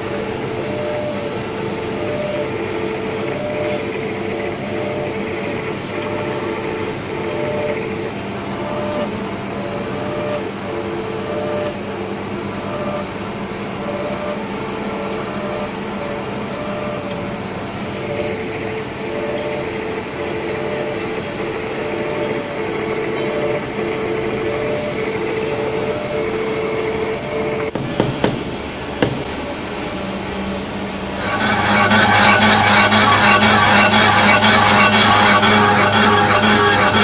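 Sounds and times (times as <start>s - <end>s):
pulsing machine tones: 0.0s - 27.7s, 29.3s - 37.0s
mechanical hum: 0.0s - 37.0s.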